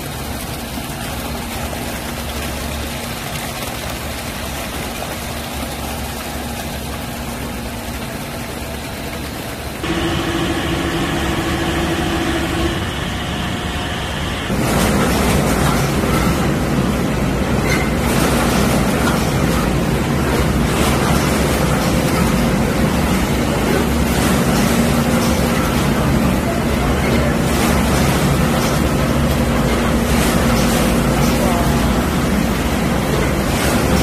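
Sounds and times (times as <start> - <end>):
processing machinery running: 0.0 - 34.0
steady hum: 0.0 - 34.0
water churning in tank: 0.0 - 34.0.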